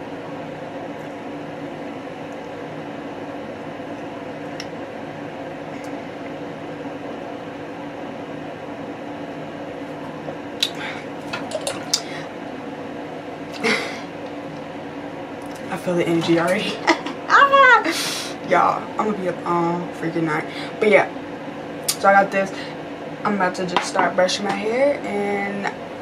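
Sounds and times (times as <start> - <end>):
household appliance humming: 0.0 - 26.0.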